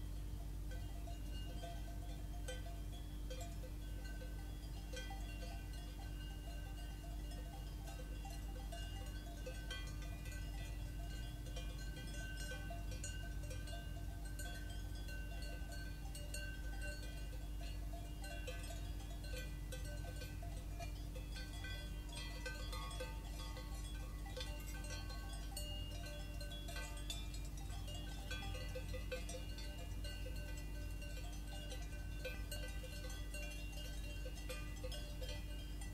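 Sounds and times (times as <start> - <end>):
cowbells clanking: 0.0 - 35.9
steady low hum: 0.0 - 35.9.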